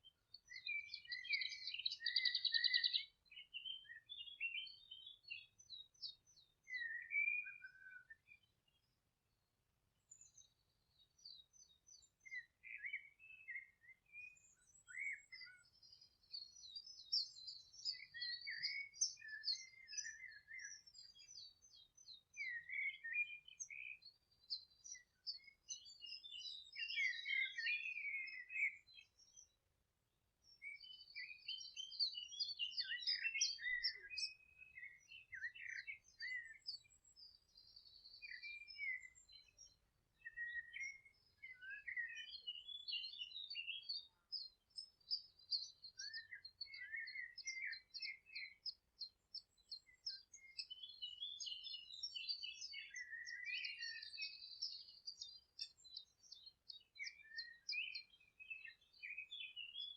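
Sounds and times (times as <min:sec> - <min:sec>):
songbirds twittering and trilling: 0:00.0 - 0:59.9.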